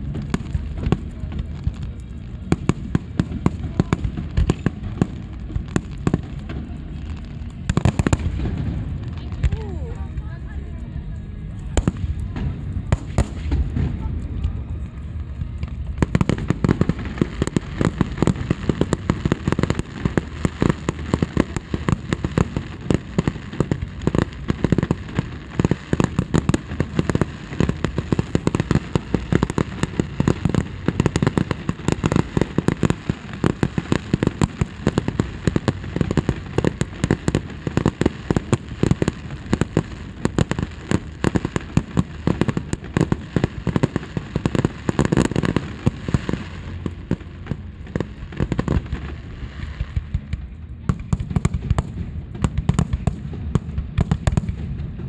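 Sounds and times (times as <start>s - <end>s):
fireworks bangs and crackles: 0.0s - 55.0s
low rumble: 0.0s - 55.0s.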